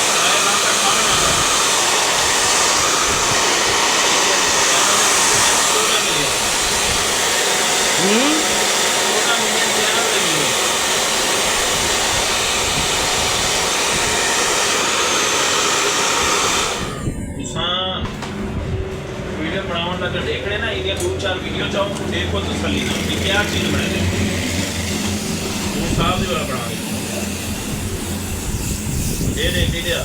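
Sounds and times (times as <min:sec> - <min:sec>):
hair dryer running: 0:00.0 - 0:17.2, 0:22.0 - 0:30.0.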